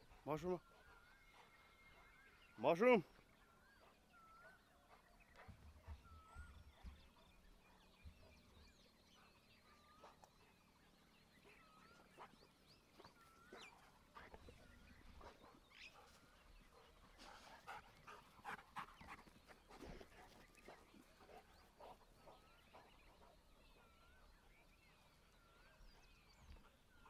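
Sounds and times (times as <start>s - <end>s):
dog noises: 0.0s - 24.8s.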